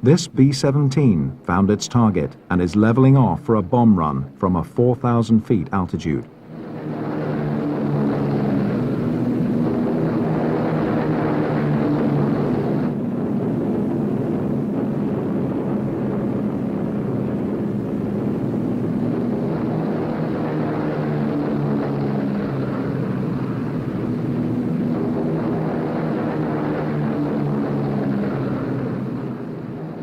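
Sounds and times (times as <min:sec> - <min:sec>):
propeller aircraft engines droning: 0:00.0 - 0:30.0.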